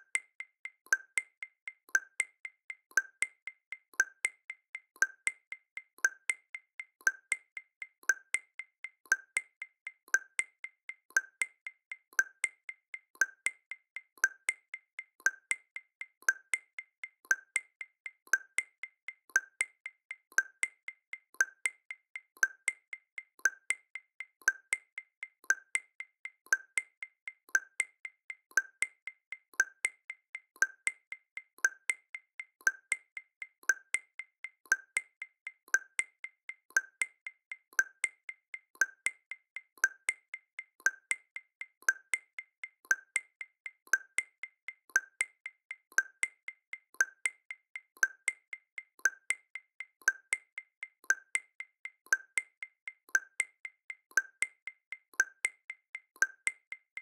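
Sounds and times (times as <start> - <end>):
clicking percussion pattern: 0.0 - 57.0.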